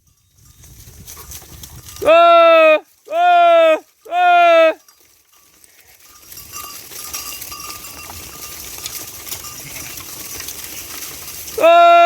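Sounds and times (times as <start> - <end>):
sheep hooves: 0.0 - 12.0.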